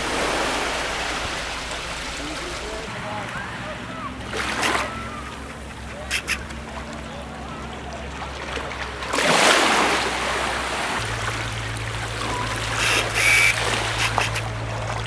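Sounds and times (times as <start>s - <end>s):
low motor hum: 0.0s - 15.0s
water rushing and splashing: 0.0s - 15.0s.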